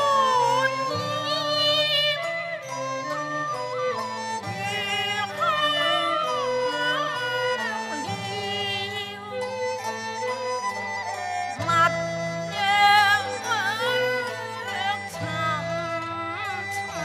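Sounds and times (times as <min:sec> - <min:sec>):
opera singing with gliding melody: 0:00.0 - 0:10.3, 0:11.5 - 0:17.0
traditional instrumental ensemble: 0:00.0 - 0:17.0.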